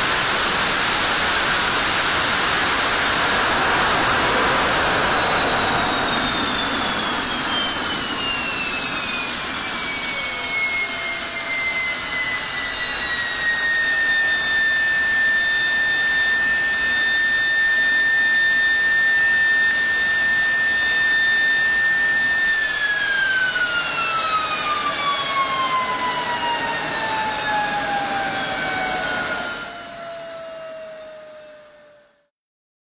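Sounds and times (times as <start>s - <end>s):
jet engine roar and whine: 0.0s - 32.3s.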